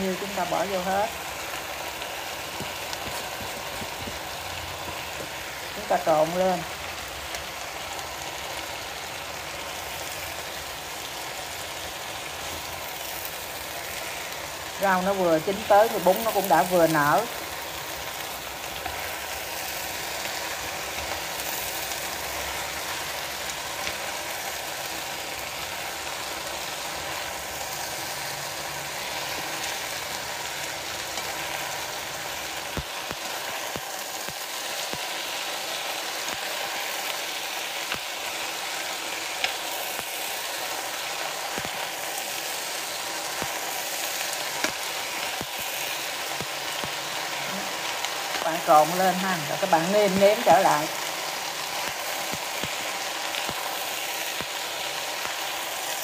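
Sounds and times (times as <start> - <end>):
noodles sizzling in a frying pan: 0.0 - 56.0.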